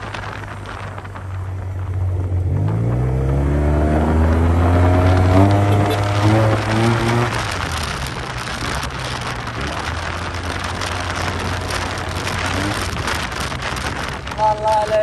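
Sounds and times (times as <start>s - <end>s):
scooter engine pulling: 0.0s - 15.0s
wind noise on microphone: 0.0s - 15.0s.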